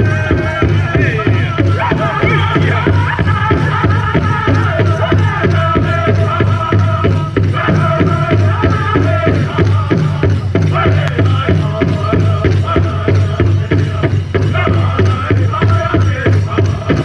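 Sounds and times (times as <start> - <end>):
large drum beating: 0.0 - 17.0
voices singing in unison: 0.0 - 17.0.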